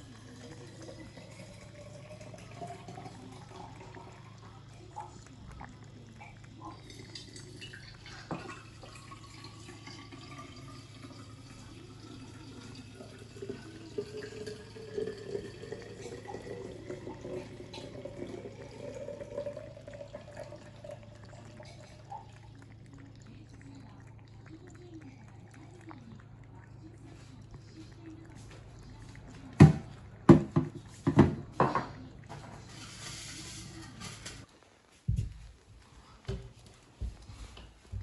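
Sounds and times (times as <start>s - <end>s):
tap running: 0.0s - 10.9s, 13.4s - 34.4s
cat lapping water: 0.0s - 38.0s.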